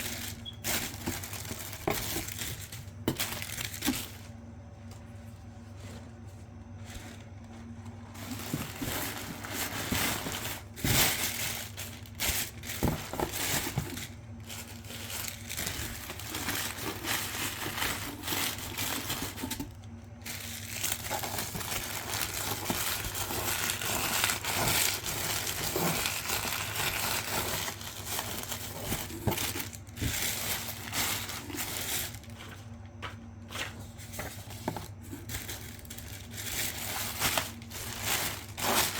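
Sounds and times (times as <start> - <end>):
packaging crinkling: 0.0 - 38.9.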